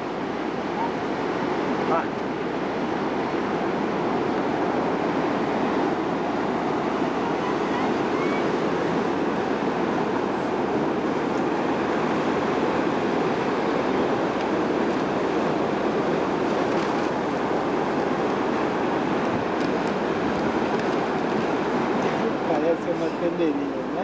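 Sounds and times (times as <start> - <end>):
wind on microphone: 0.0 - 22.5
beach surf: 0.0 - 24.0.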